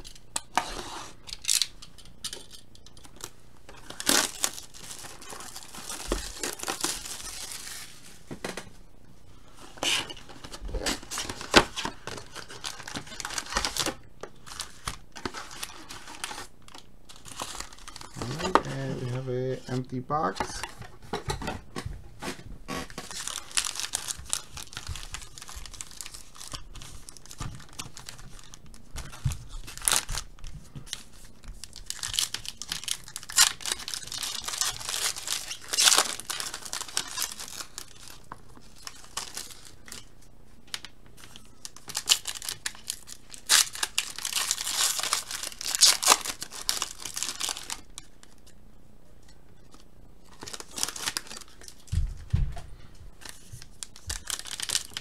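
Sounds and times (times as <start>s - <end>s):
foil wrappers tearing and crinkling: 0.0s - 8.2s, 9.6s - 20.9s, 22.2s - 48.6s, 49.6s - 52.0s, 53.2s - 55.0s.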